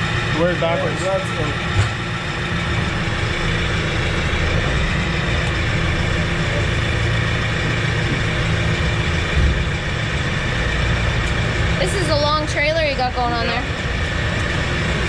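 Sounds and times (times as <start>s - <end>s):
vehicle engine idling low: 0.0s - 15.0s.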